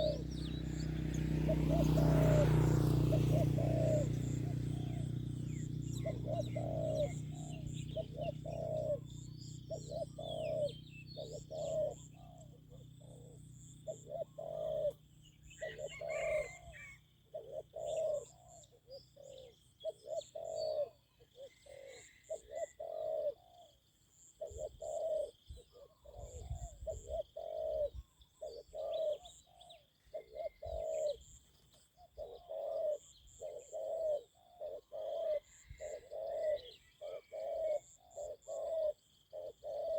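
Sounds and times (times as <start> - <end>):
doves cooing: 0.0 - 23.8, 24.4 - 39.9
small birds chirping: 0.0 - 39.9.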